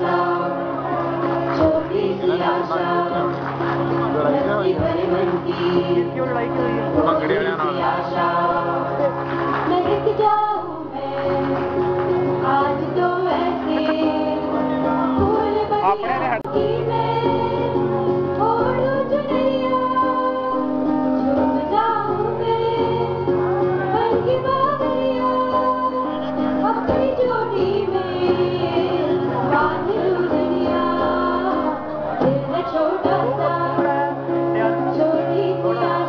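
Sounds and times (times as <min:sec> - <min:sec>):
acoustic guitar: 0:00.0 - 0:36.0
group of voices singing: 0:00.0 - 0:36.0.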